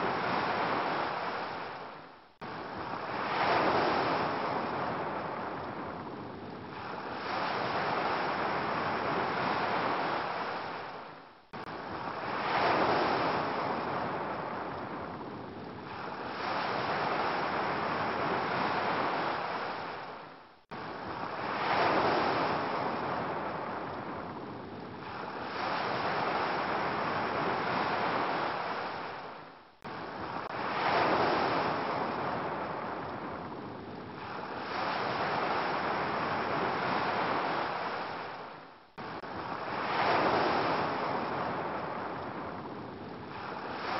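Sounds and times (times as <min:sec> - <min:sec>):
ocean waves washing: 0:00.0 - 0:43.9.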